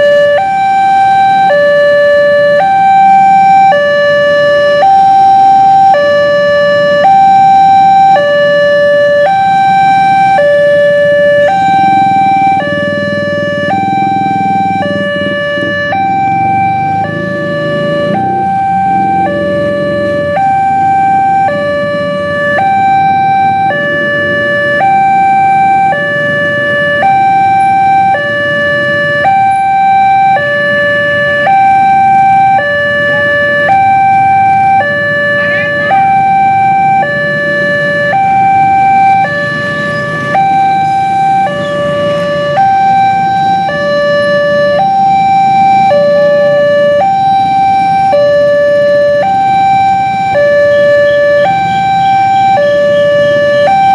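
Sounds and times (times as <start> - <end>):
road traffic rumble: 0.0 - 53.9
two-tone crossing alarm: 0.0 - 53.9.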